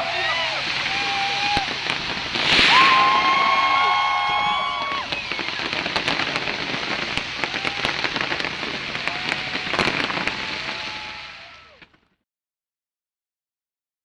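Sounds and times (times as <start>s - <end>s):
fireworks crackling: 0.0s - 12.2s.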